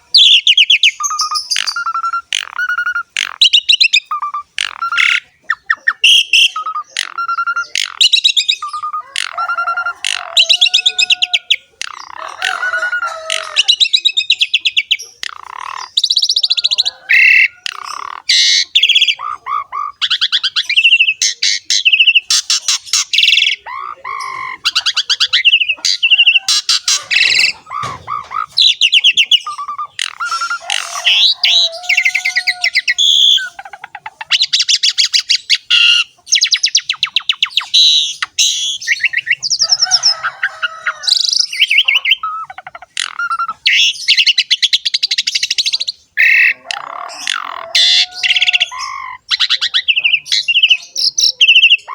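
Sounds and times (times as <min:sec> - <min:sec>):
bird whistles and squawks: 0:00.0 - 0:51.9
starling singing harsh trills: 0:00.0 - 0:51.9.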